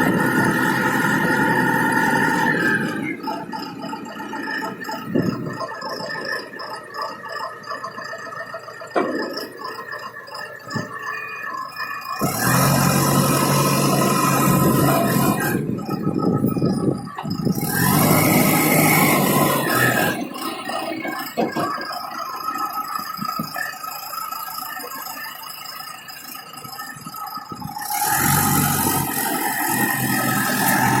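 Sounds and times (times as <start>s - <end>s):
mixer truck engine rattling: 0.0s - 31.0s.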